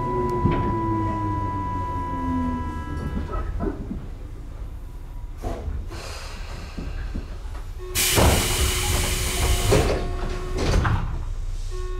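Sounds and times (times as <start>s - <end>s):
train doors sliding open: 0.0s - 11.8s
train rumbling to a stop: 0.0s - 11.9s.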